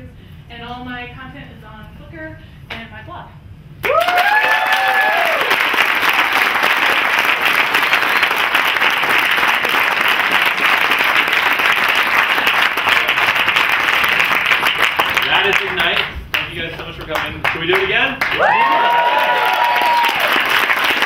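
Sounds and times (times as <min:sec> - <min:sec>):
audience applauding: 0:03.8 - 0:21.0.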